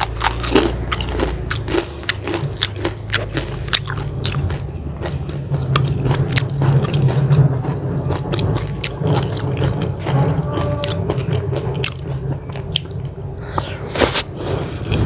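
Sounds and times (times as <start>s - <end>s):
low steady hum: 0.0s - 15.0s
person chewing noodles: 0.0s - 15.0s.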